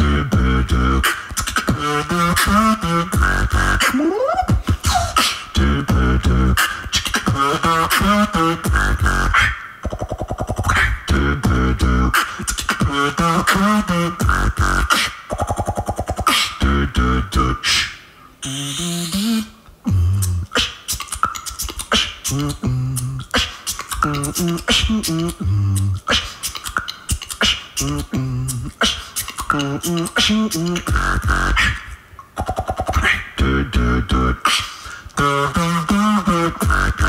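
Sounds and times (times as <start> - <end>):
beatboxing: 0.0 - 37.0.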